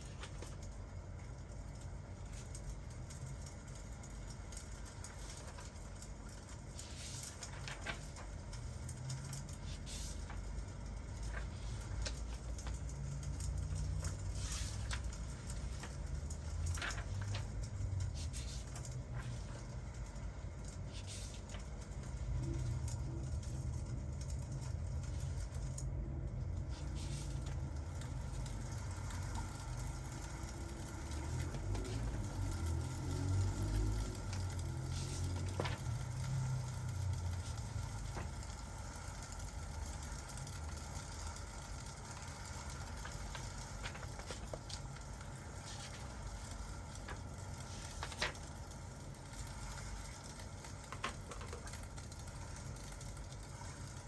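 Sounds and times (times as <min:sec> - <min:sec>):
fireplace crackling: 0:00.0 - 0:54.0.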